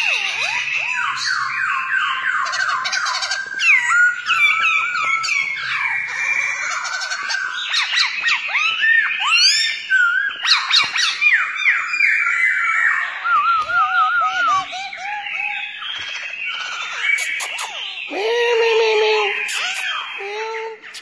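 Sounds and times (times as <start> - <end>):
bird singing whistled notes: 0.2 - 6.7, 7.4 - 18.2.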